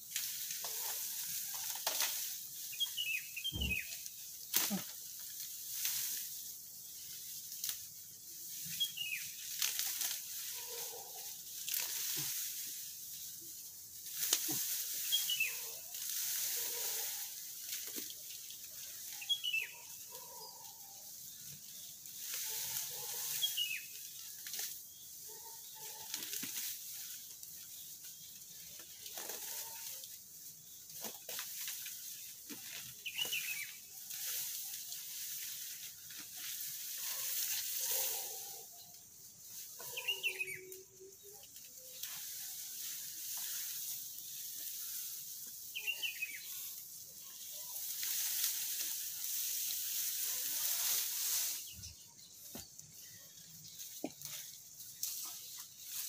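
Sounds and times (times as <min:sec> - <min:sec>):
grass rustling and snapping: 0:00.0 - 0:56.0.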